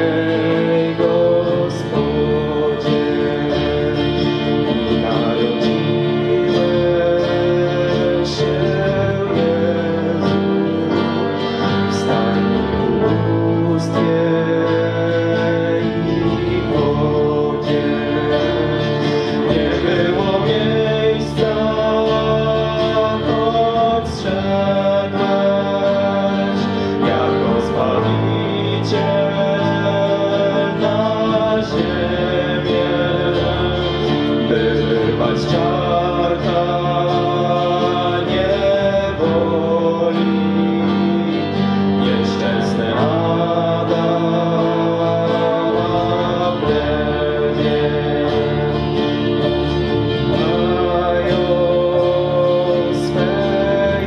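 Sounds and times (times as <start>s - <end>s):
guitar accompaniment: 0.0s - 54.0s
person singing: 0.0s - 54.0s.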